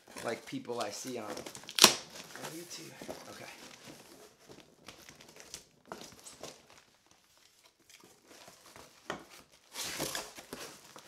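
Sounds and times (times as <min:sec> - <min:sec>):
cardboard and tape scraping: 0:00.0 - 0:11.0
packing material crinkling: 0:00.0 - 0:11.0.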